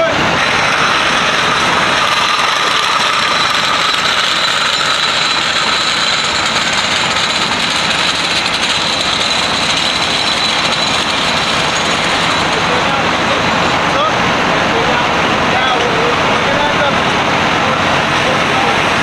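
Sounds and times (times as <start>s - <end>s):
steady high whine: 0.0s - 19.0s
pickup truck engine running: 0.2s - 19.0s.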